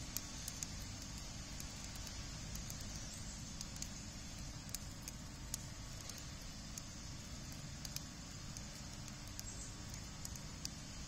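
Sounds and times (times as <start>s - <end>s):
low background rumble: 0.0s - 11.0s
sharp pops of fire: 0.0s - 11.0s
wood fire crackling: 0.0s - 11.0s.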